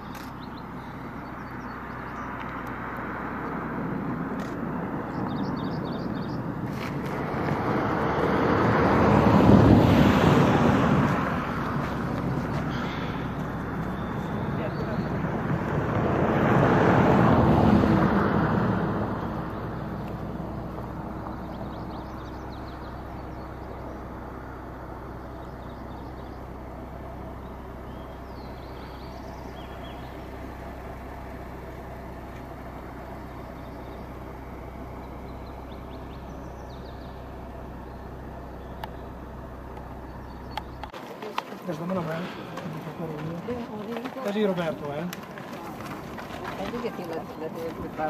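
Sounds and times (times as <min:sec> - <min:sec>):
low hum of traffic: 0:00.0 - 0:48.0
vehicle passing by: 0:00.0 - 0:48.0.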